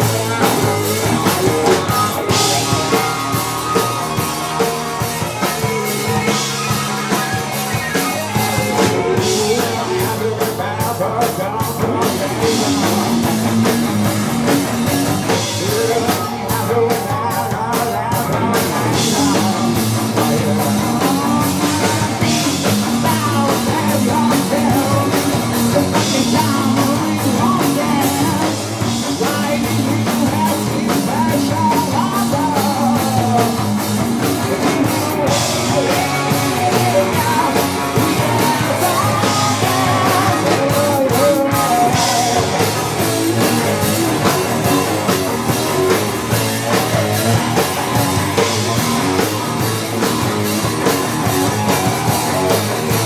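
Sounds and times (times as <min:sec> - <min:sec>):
person singing: 0:00.0 - 0:53.0
rock band playing live: 0:00.0 - 0:53.0.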